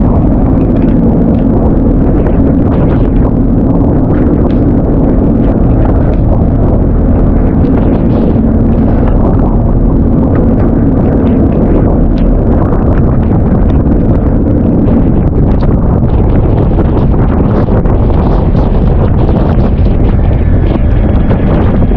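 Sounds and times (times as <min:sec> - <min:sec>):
boat engine running: 0:00.0 - 0:21.9
wind rumbling on microphone: 0:00.0 - 0:21.9.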